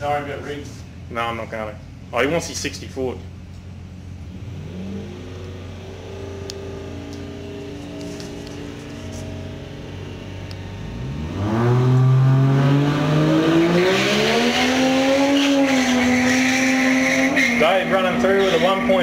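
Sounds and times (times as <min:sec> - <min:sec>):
drag car engines accelerating: 0:03.6 - 0:19.0.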